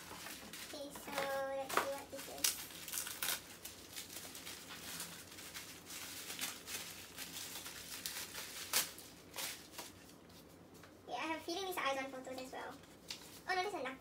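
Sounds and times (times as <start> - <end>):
bubble wrap and plastic rustling: 0.0 - 10.9, 11.6 - 13.8.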